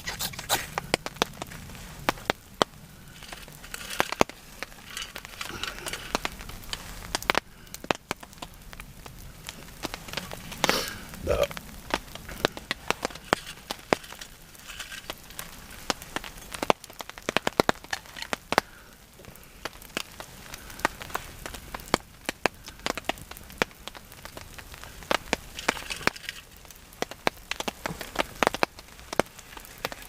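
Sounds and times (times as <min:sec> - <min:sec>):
rain drops ticking on tarp: 0:00.0 - 0:30.0.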